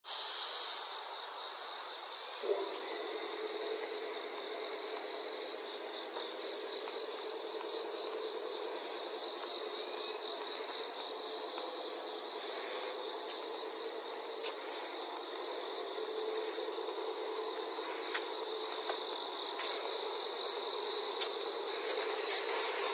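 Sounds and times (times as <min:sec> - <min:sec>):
insects chirping: 0:00.0 - 0:22.9
low hum: 0:02.4 - 0:22.9.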